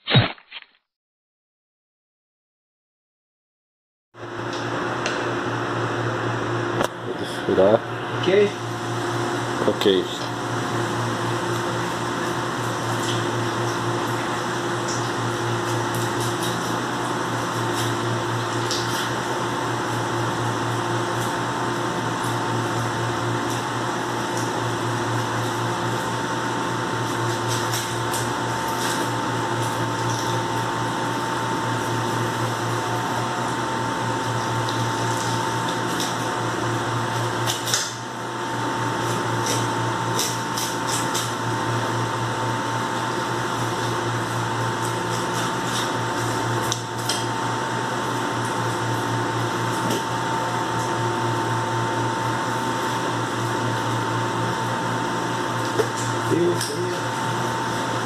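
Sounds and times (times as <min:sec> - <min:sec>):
machine hum with whine: 0:04.2 - 0:58.0.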